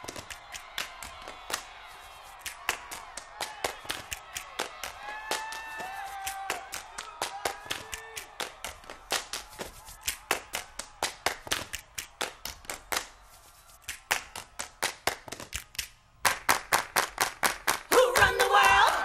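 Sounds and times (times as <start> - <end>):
group clapping a fast rhythm: 0.0 - 19.0.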